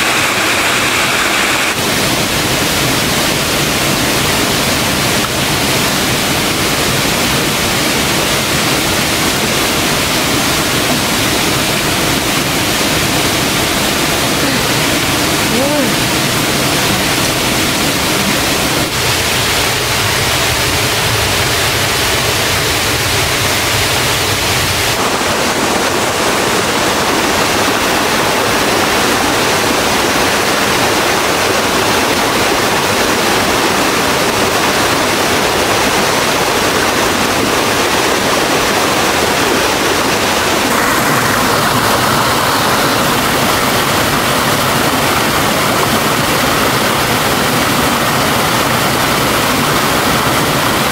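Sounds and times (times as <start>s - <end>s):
water rushing: 0.0s - 50.9s.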